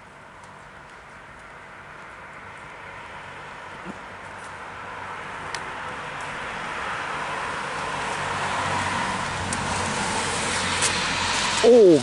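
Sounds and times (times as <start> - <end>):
car tyres hissing on wet street: 1.1 - 12.0.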